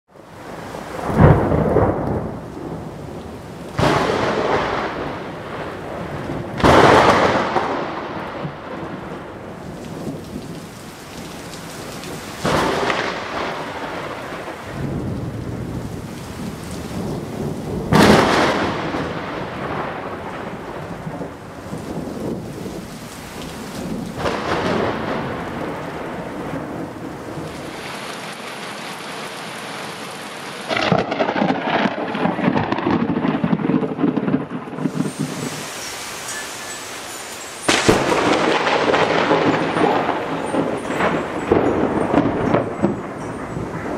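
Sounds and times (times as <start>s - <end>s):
heavy rain: 0.1s - 43.9s
thunderclaps with rumbling: 0.4s - 28.0s, 30.7s - 43.9s.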